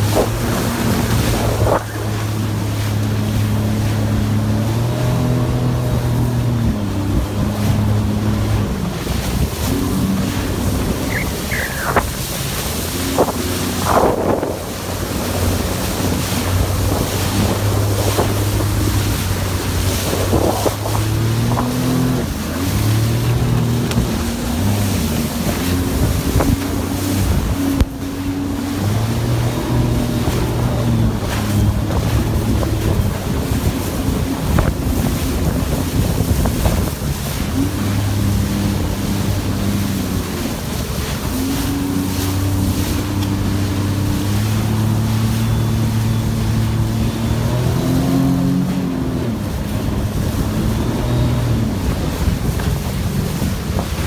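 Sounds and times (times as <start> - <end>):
jet ski engine: 0.0 - 54.0
water splashing against hull: 0.0 - 54.0
wind buffeting microphone: 0.0 - 54.0.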